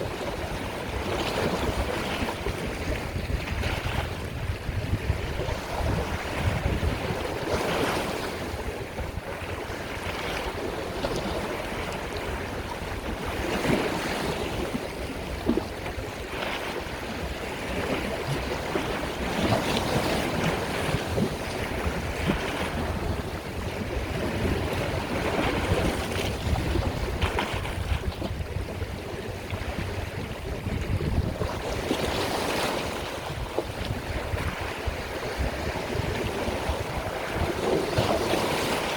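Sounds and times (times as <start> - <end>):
sea waves breaking: 0.0 - 38.9.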